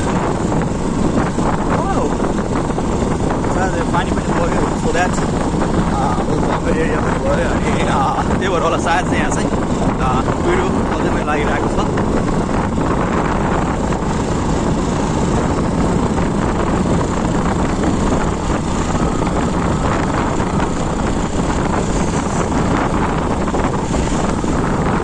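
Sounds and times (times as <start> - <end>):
motorcycle engine running: 0.0 - 25.0
wind on microphone: 0.0 - 25.0.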